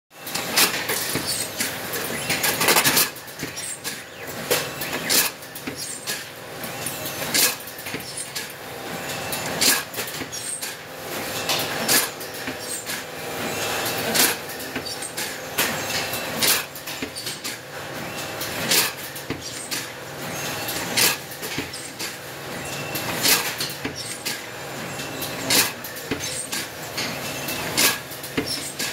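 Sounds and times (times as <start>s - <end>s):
machine clattering: 0.2s - 28.9s
sharp machine clack: 0.2s - 28.9s.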